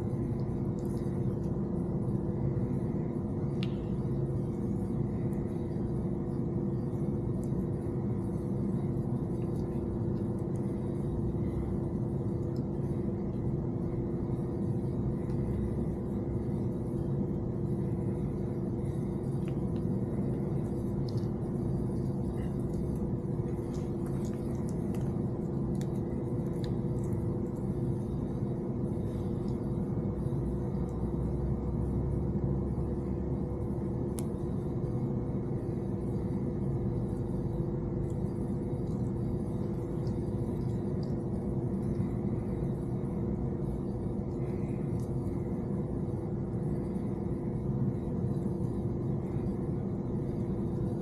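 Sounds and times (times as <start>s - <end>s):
machine hum: 0.0s - 51.0s.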